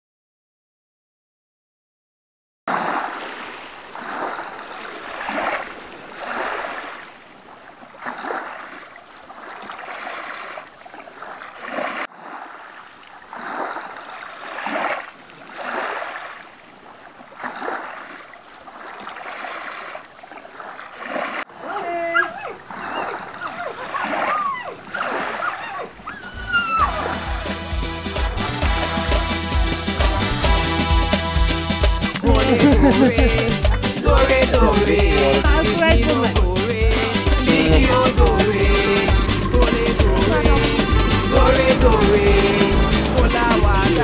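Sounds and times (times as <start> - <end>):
waves lapping against a dock: 2.7 - 44.0.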